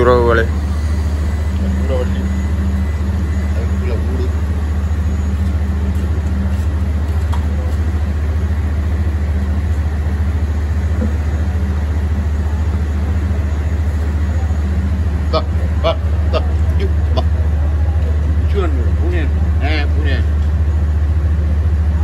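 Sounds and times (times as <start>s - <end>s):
machine low drone: 0.0s - 22.0s.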